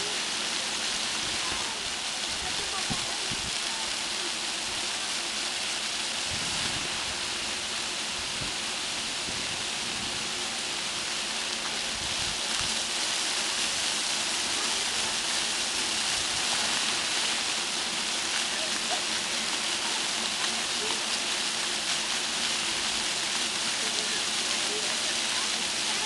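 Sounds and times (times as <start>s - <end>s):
fountain water splashing on stone: 0.0s - 26.0s.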